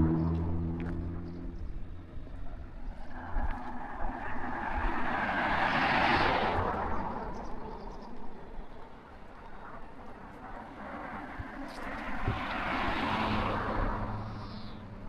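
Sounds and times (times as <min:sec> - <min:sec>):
car passing by: 0:00.0 - 0:15.0.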